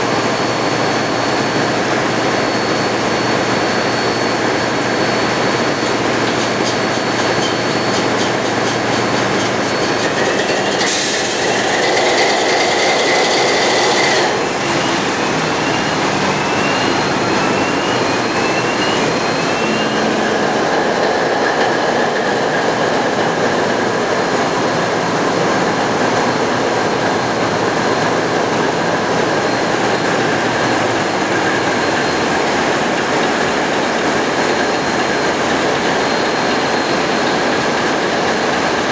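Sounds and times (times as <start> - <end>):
marine diesel engines running: 0.0 - 38.9.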